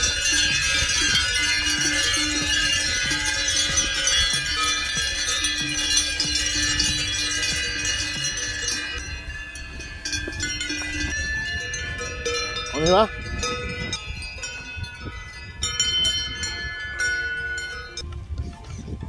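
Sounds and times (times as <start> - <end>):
cowbells clanging: 0.0 - 18.9.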